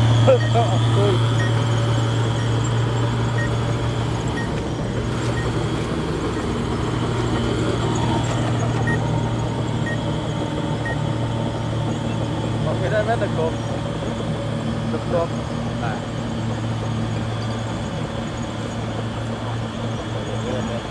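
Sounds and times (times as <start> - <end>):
bulldozer diesel engine droning: 0.0 - 20.9.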